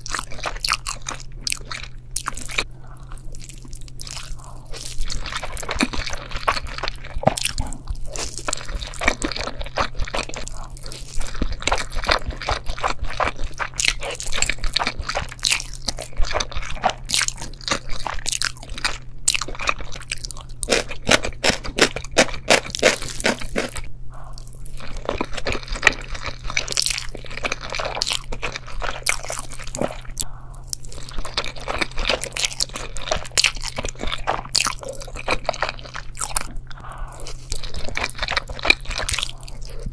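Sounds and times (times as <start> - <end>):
crunching of chewing: 0.0 - 39.9
steady low hum: 0.0 - 39.9.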